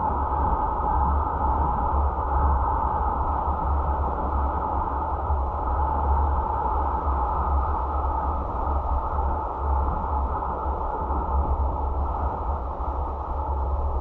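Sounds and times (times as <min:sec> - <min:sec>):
car road and wind noise: 0:00.0 - 0:14.0.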